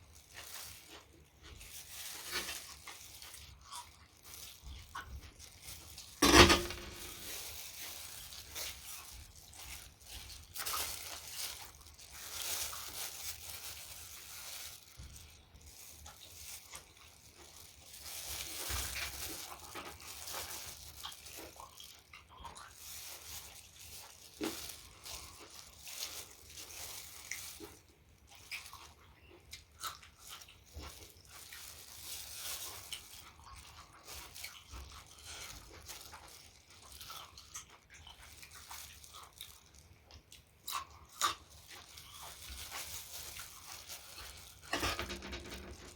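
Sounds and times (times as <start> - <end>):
wet chewing: 0.0 - 45.9.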